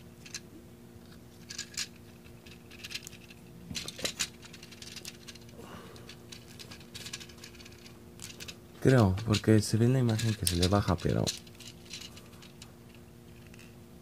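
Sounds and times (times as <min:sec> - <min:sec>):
plastic toy clicks and rattles: 0:01.4 - 0:13.7.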